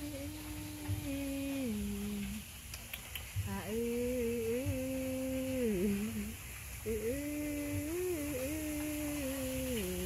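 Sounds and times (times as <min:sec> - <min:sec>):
woman humming: 0:00.0 - 0:02.4, 0:03.5 - 0:06.3, 0:06.9 - 0:10.0.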